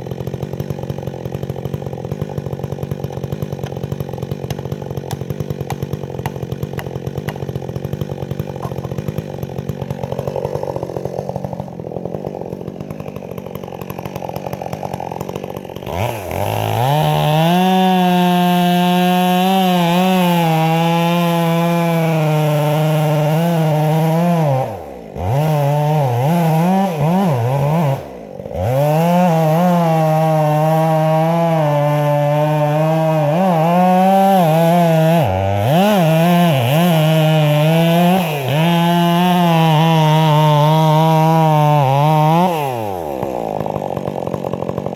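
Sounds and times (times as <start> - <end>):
chainsaw cutting wood at full throttle: 0.0 - 44.9
chainsaw idling: 0.0 - 44.9.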